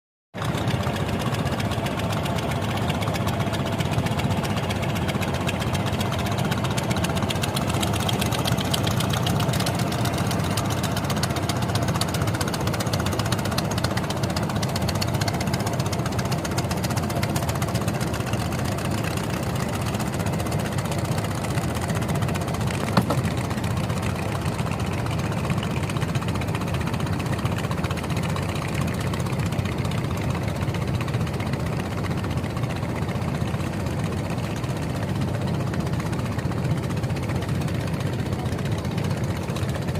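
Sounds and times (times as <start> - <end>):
vehicle engine running: 0.4 - 39.9.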